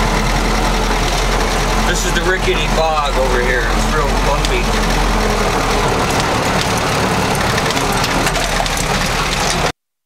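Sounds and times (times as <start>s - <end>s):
engine running at low speed: 0.0s - 9.7s
jeep rattling over rough ground: 0.0s - 9.7s.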